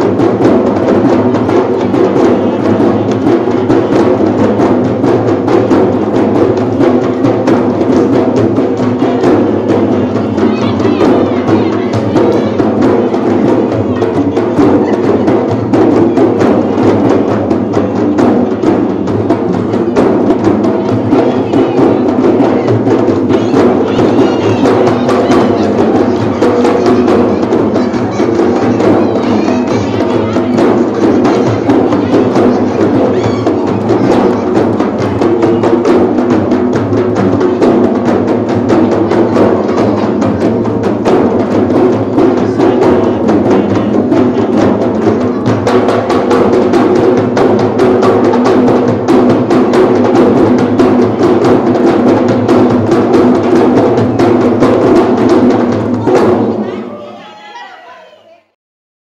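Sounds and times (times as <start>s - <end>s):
frame drums beaten in rhythm: 0.0s - 58.2s.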